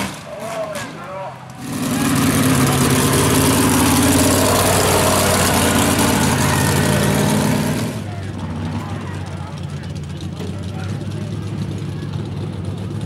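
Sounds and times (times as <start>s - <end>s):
vehicle engine running loud: 0.0s - 13.0s.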